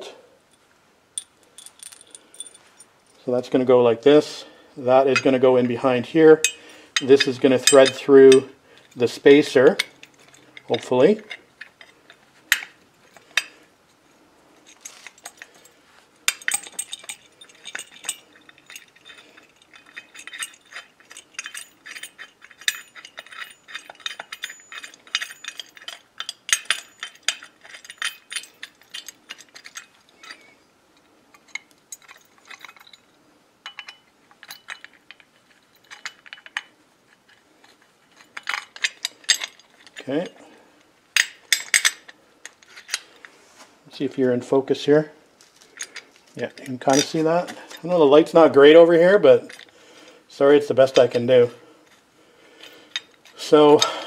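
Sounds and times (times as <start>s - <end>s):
metal parts clinking: 1.2s - 3.3s, 4.8s - 13.6s, 14.6s - 43.3s, 45.4s - 49.8s, 50.6s - 54.0s.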